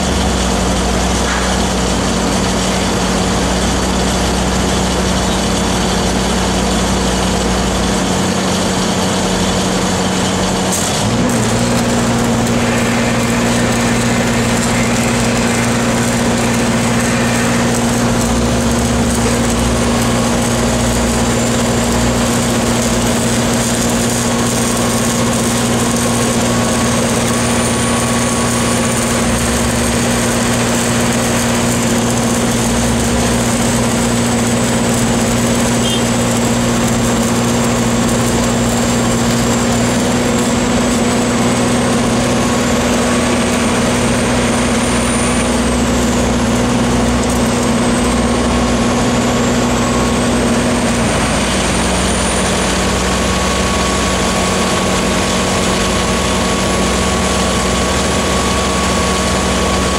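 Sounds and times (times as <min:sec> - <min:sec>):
engines running: 0:00.0 - 0:59.9
welding arc crackle: 0:00.0 - 0:59.9.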